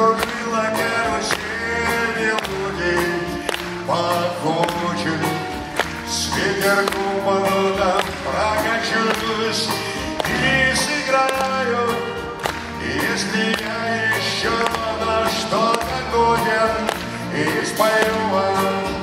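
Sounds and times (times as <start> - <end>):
man singing: 0.0 - 19.0.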